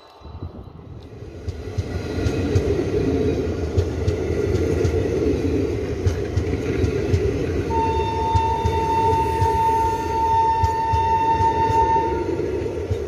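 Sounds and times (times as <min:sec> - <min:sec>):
train coaches rumbling past: 0:00.0 - 0:13.0
wheels clacking over rail joints: 0:01.1 - 0:13.0.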